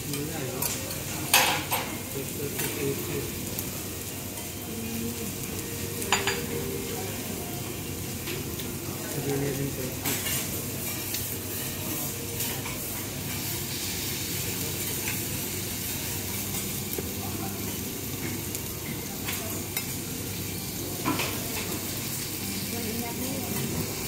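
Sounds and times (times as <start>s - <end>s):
meat sizzling on a griddle: 0.0s - 24.0s.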